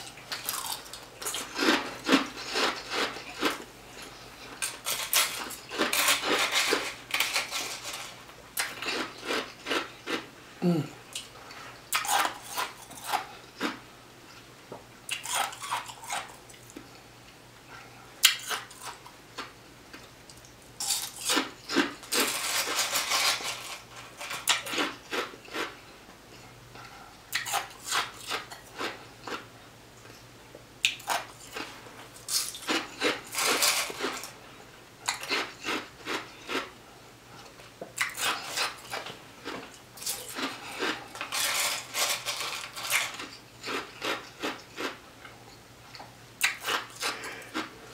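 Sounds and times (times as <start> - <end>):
crackly chewing: 0.0 - 10.3, 15.1 - 30.2, 30.8 - 34.4, 35.0 - 47.8.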